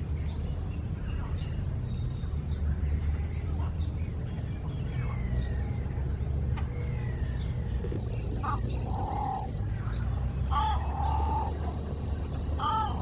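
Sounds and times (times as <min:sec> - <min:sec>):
birds chirping and whistling: 0:00.0 - 0:13.0
low rumble: 0:00.0 - 0:13.0.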